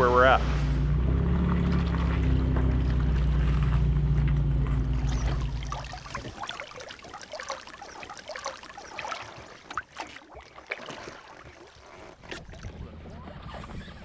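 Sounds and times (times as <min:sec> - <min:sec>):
oar splashing in water: 0:01.4 - 0:13.0
water trickling off oar: 0:01.4 - 0:13.0.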